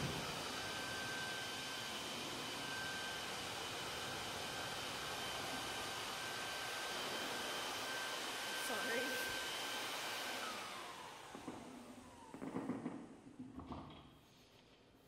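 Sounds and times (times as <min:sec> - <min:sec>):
vacuum motor whining: 0:00.0 - 0:12.4.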